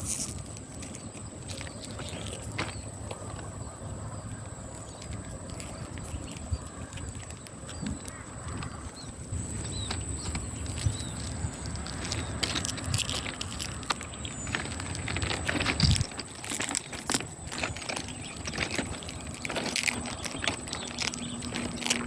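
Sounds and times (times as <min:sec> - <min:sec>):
dry plants crackling: 0:00.0 - 0:22.0.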